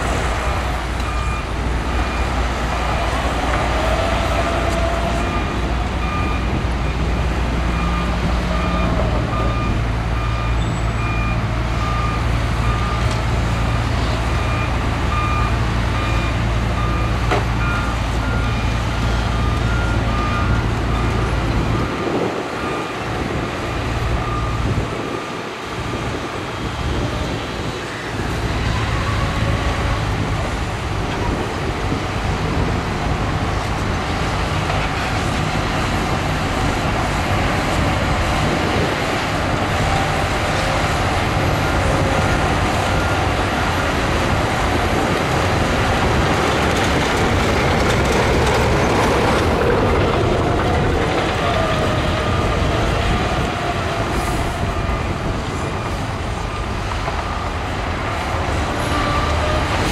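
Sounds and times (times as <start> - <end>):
diesel truck engines running: 0.0 - 59.9.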